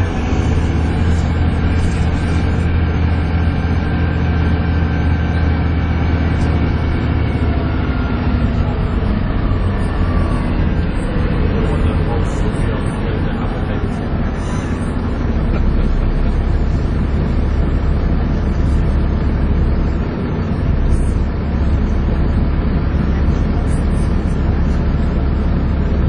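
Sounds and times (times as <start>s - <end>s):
bus diesel engine droning: 0.0s - 26.0s
engine whine: 0.0s - 26.0s.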